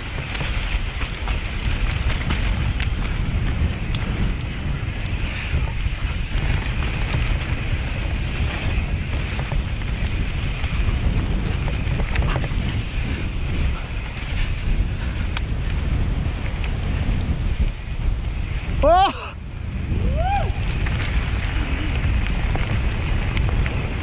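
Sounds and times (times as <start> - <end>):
tyres rolling over dirt and leaves: 0.0 - 15.3, 19.6 - 24.0
bike clicks and ticks: 0.0 - 24.0
wind rumbling on microphone: 0.0 - 24.0.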